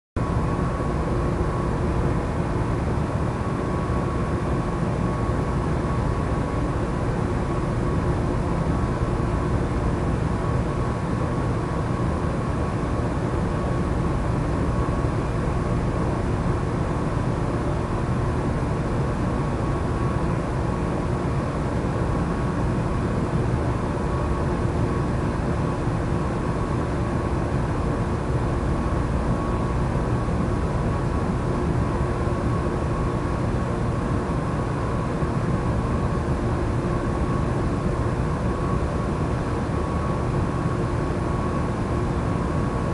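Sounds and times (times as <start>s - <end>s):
faint constant hum: 0.2s - 42.9s
low rumbling background noise: 0.2s - 42.9s.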